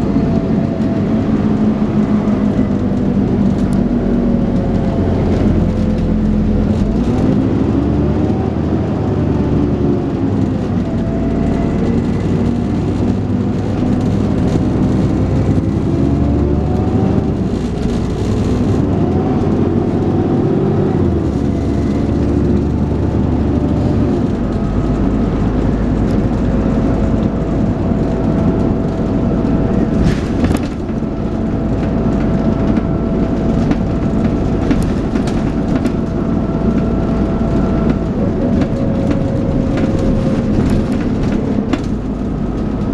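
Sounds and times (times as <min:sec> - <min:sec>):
bus engine accelerating: 0:00.0 - 0:42.9.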